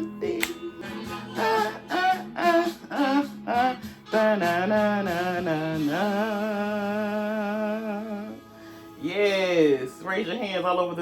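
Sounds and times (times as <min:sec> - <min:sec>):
person singing with music: 0:00.0 - 0:11.0.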